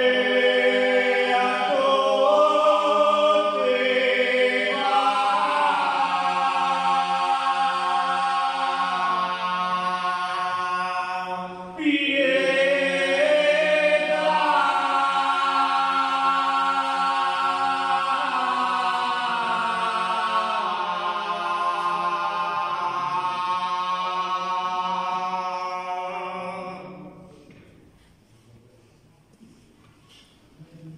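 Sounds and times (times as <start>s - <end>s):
men singing a slow chant: 0.0s - 27.4s.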